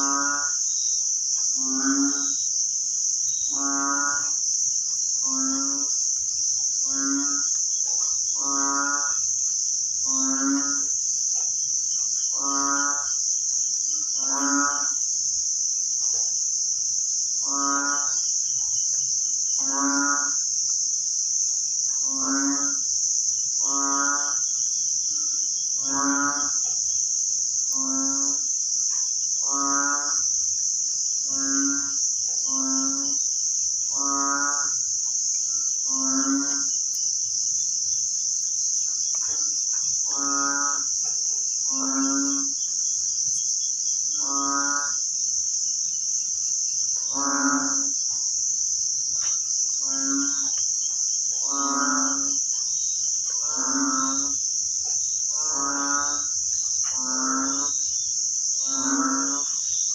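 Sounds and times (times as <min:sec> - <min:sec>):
frog croaking: 0:00.0 - 0:20.8, 0:21.9 - 0:27.0, 0:27.6 - 0:30.5, 0:31.2 - 0:59.9
high-pitched insect chorus: 0:00.0 - 0:59.9.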